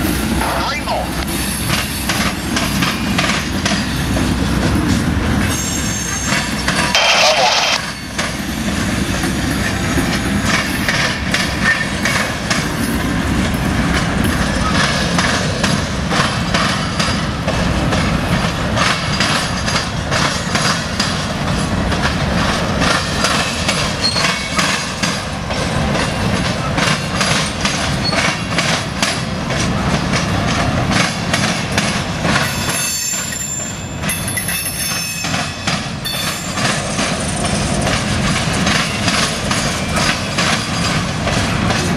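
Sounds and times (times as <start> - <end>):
train rumble: 0.0 - 41.9
train wheels clattering over crossing: 1.2 - 41.9.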